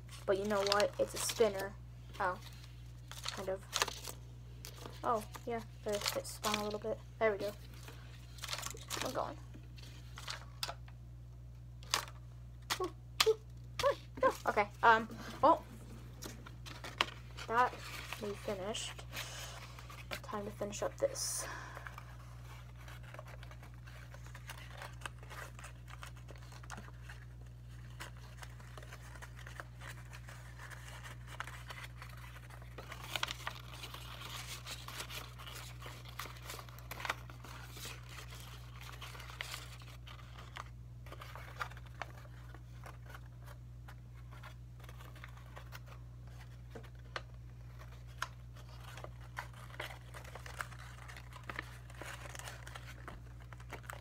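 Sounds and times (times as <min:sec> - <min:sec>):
paper folding and crinkling: 0:00.0 - 0:11.0, 0:11.8 - 0:54.0.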